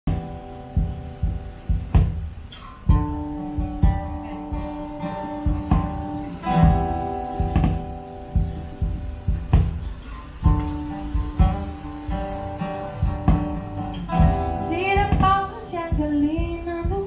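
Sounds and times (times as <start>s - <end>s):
acoustic guitar strumming chords: 0.1s - 17.0s.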